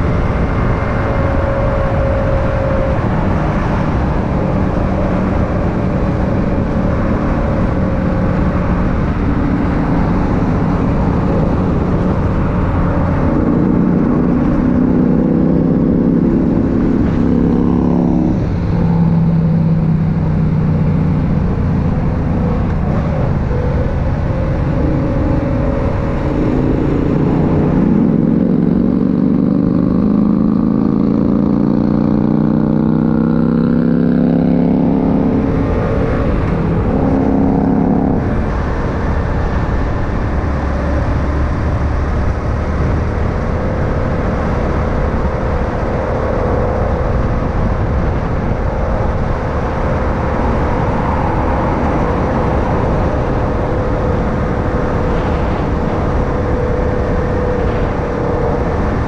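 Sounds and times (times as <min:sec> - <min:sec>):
motorcycle engine accelerating: 0:00.0 - 0:59.0
wind rumbling on microphone: 0:00.0 - 0:59.0.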